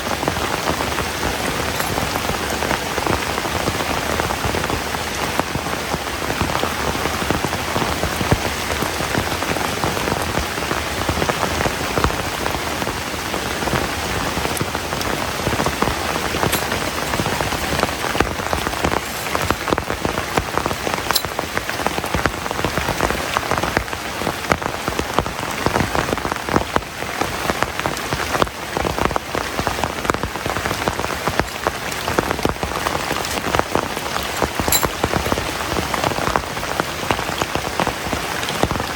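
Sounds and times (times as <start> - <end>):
heavy rain falling: 0.0 - 38.9
sharp water drips: 0.0 - 38.9.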